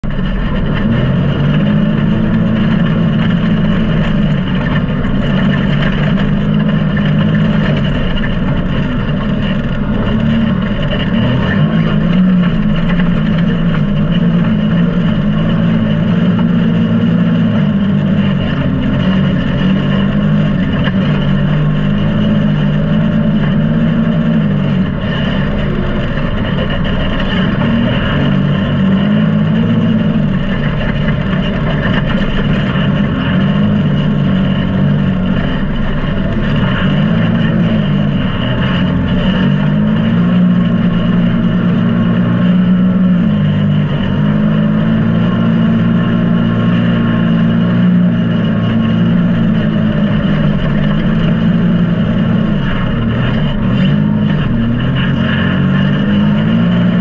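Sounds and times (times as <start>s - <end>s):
off-road vehicle engine under load: 0.0s - 57.0s.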